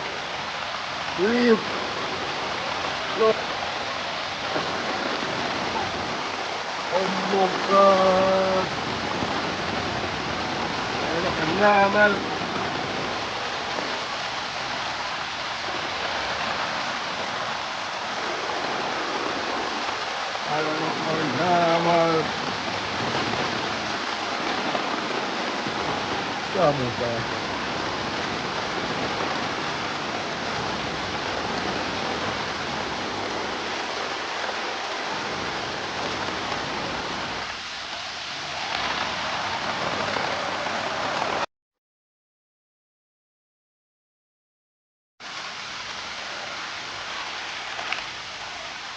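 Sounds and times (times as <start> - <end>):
heavy rain: 0.0 - 41.5, 45.2 - 48.9
running water: 0.0 - 41.5, 45.2 - 48.9
rushing floodwater: 0.0 - 41.5, 45.2 - 48.9.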